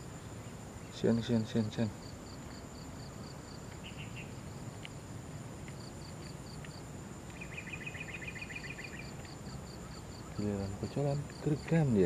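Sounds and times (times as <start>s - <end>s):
insects buzzing and chirping: 0.0s - 12.0s.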